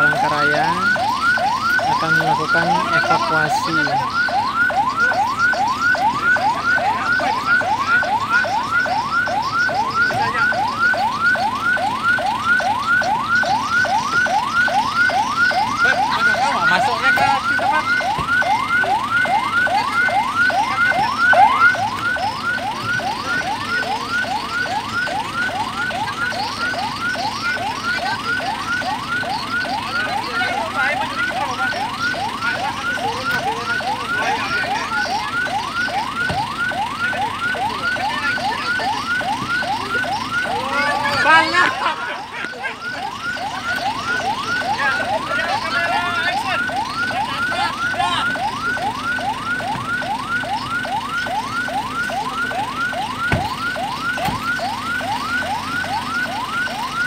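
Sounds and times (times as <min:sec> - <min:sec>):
ambulance siren yelping: 0:00.0 - 0:57.0.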